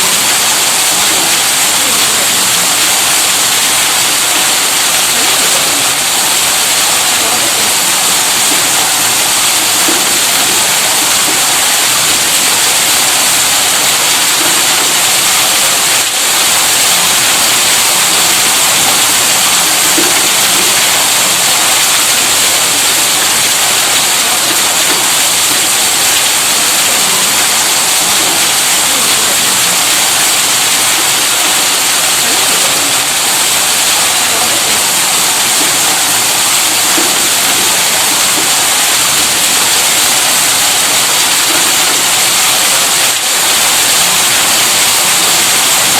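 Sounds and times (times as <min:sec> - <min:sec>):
water gushing from pump outlet: 0:00.0 - 0:45.9.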